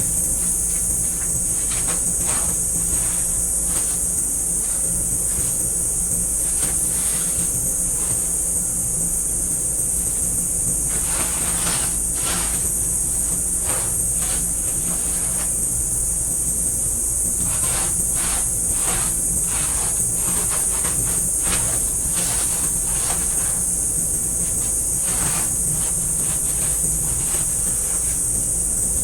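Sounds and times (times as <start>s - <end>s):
hands rustling and scraping: 0.0s - 16.4s, 17.1s - 29.0s
steady high hiss: 0.0s - 29.0s.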